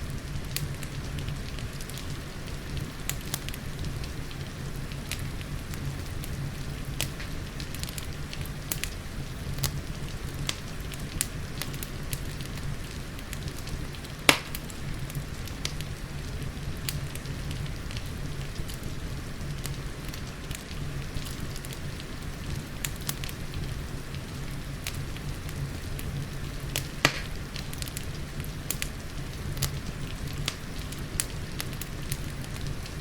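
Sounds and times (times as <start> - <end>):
steady rain: 0.0 - 33.0
wood fire crackling and popping: 0.0 - 33.0.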